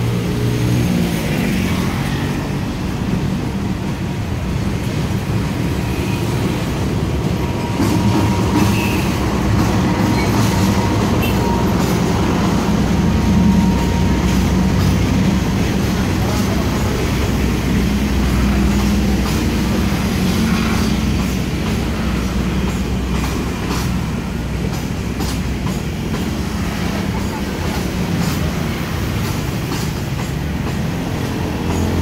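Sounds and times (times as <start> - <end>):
diesel locomotive engine running: 0.0 - 32.0
train coaches rumbling on track: 0.0 - 32.0.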